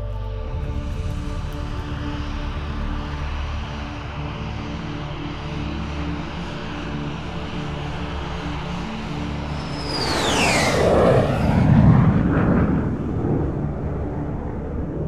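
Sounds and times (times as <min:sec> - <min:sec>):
deep rumble: 0:00.0 - 0:15.0
high whine gliding downward: 0:00.0 - 0:15.0.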